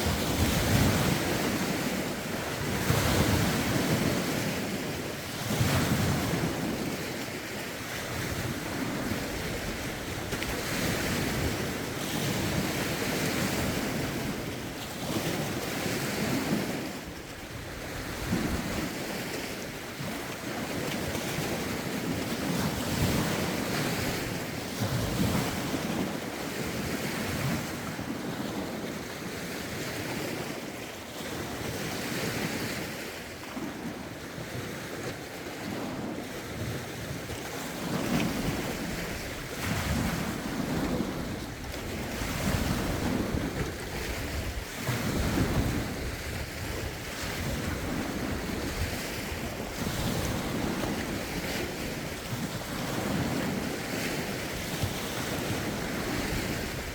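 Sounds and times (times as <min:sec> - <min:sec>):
lake waves washing ashore: 0:00.0 - 0:56.9
wind buffeting microphone: 0:00.0 - 0:56.9.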